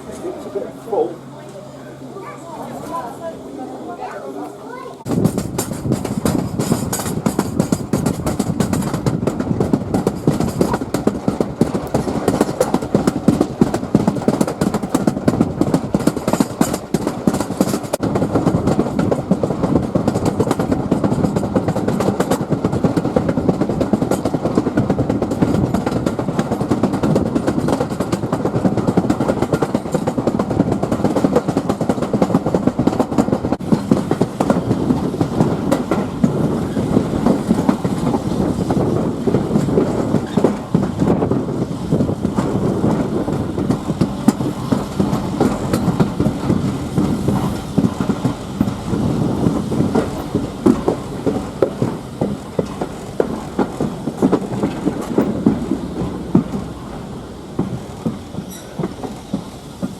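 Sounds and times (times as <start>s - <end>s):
train rumble: 0.0s - 59.9s
wheels clicking over rails: 0.0s - 59.9s.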